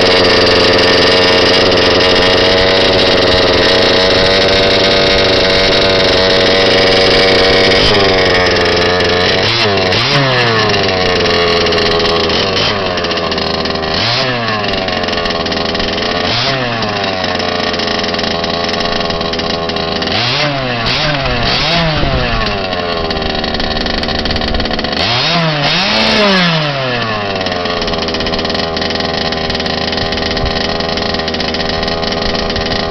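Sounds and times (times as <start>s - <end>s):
small two-stroke engine revving: 0.0s - 32.9s.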